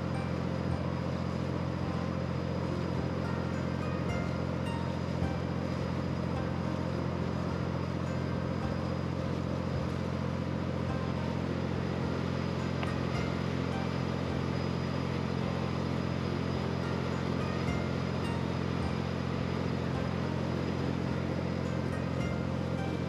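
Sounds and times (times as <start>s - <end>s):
speedboat engine droning: 0.0s - 23.0s.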